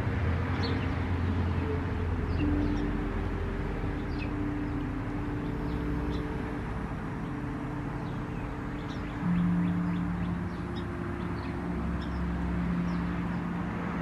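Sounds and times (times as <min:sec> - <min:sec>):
small birds chirping: 0:00.5 - 0:14.0.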